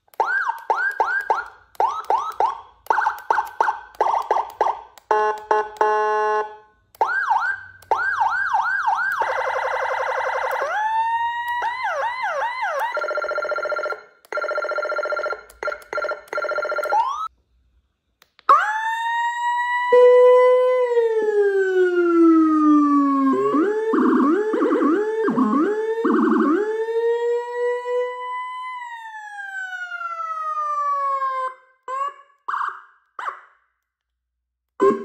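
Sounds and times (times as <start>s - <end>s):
electronic vehicle siren: 0.2s - 6.0s, 7.0s - 17.3s, 18.5s - 33.5s, 34.8s - 35.0s.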